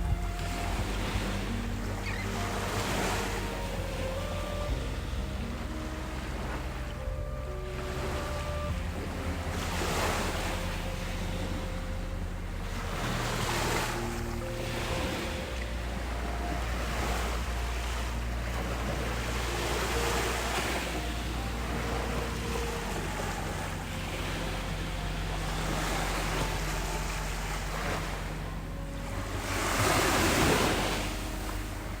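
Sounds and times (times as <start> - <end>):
sea waves washing onto beach: 0.0 - 32.0
wind buffeting microphone: 0.0 - 32.0.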